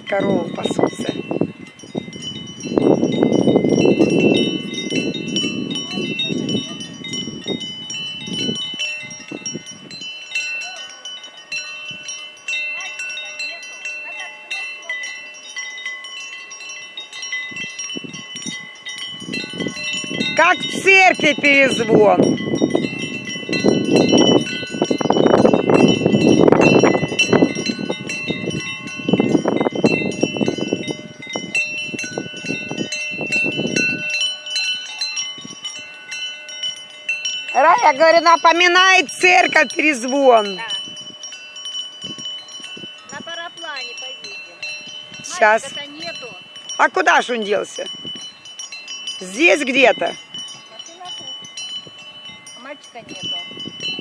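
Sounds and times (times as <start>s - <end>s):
cowbells ringing: 0.0s - 54.0s.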